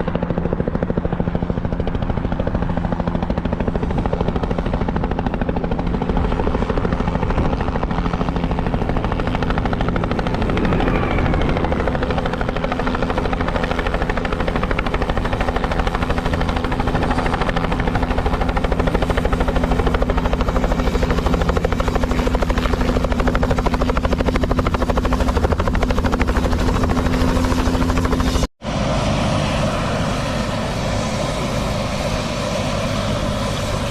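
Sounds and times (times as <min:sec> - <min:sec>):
helicopter engine and rotor noise: 0:00.0 - 0:33.9.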